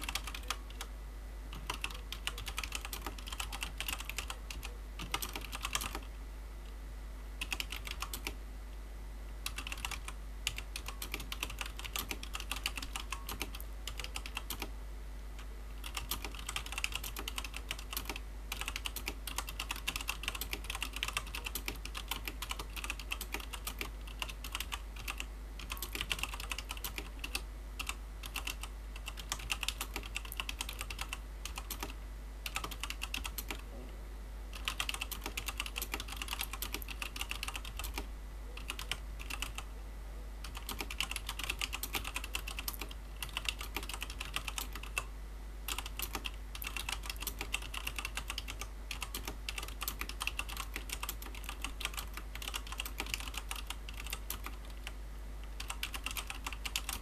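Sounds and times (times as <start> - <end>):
typing on mechanical keyboard: 0.0 - 0.9, 1.5 - 6.1, 7.4 - 8.4, 9.4 - 14.7, 15.8 - 33.6, 34.5 - 39.6, 40.4 - 45.1, 45.7 - 55.0, 55.6 - 57.0.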